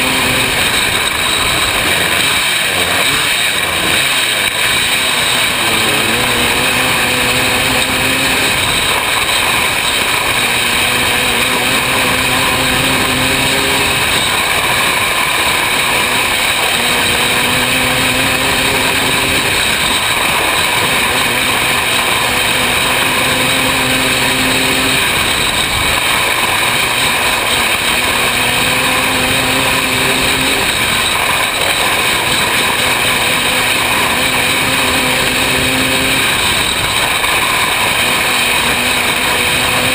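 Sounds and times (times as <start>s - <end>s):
racing car engine running hard: 0.0s - 39.9s
steady rush of noise: 0.0s - 39.9s.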